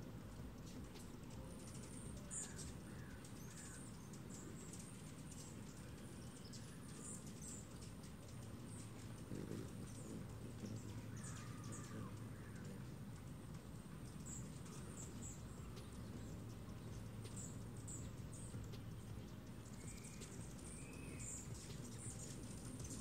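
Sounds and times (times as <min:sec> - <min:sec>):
faint low rumble: 0:00.0 - 0:23.0
lower falling bird calls: 0:00.8 - 0:23.0.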